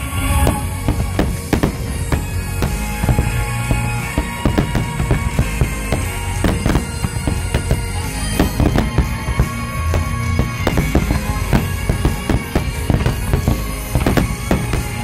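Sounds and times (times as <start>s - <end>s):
music playing: 0.0s - 15.0s
firework shells bursting: 0.4s - 15.0s.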